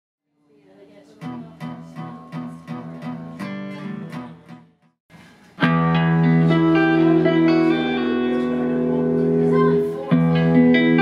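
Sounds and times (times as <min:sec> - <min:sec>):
plucked guitar notes: 0:01.2 - 0:04.8, 0:05.6 - 0:11.0.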